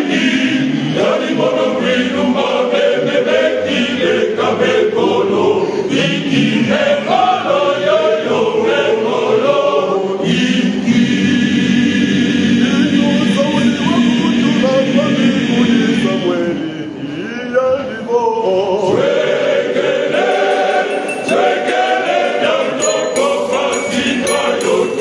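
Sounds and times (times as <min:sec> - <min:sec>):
choir singing: 0:00.0 - 0:17.2, 0:18.4 - 0:25.0.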